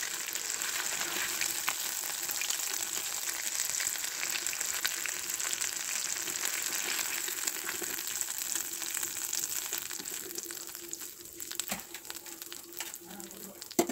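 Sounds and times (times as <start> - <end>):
food deep-frying in oil: 0.0 - 13.9.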